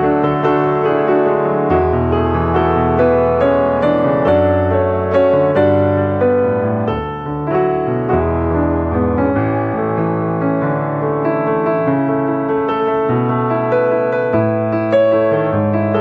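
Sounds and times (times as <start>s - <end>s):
piano melody over bass notes: 0.0s - 16.0s.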